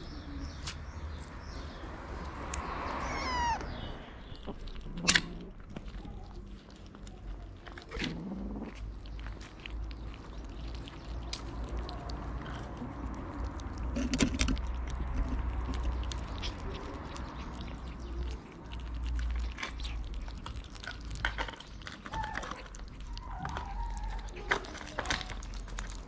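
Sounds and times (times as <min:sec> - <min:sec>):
kittens chewing wet food: 0:00.0 - 0:26.0.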